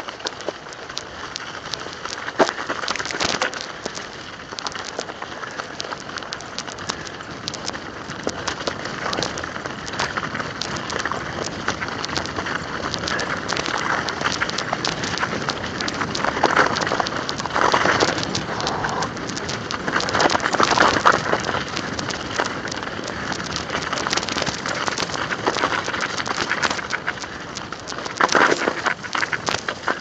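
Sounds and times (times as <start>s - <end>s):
bike tyres rolling over snow: 0.0s - 30.0s.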